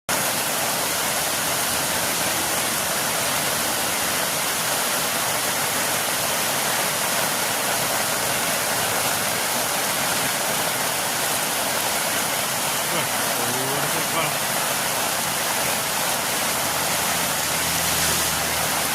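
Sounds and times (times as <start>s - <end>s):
heavy rain pouring: 0.1s - 18.9s.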